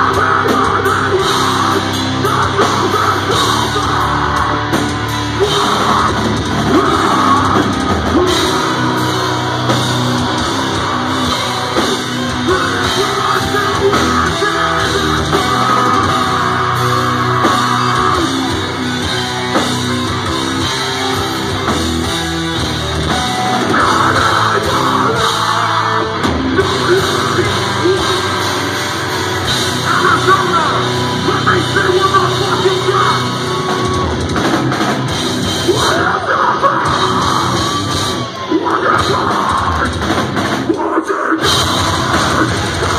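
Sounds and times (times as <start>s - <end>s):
bass guitar: 0.0s - 42.9s
distorted electric guitars: 0.0s - 42.9s
harsh vocals: 0.0s - 42.9s
pounding drum kit: 0.0s - 42.9s.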